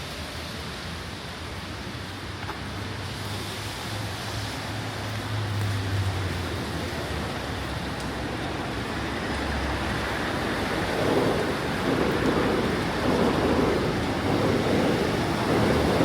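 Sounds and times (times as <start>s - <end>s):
city ambience: 0.0s - 16.0s
steady rain hiss: 0.0s - 16.0s.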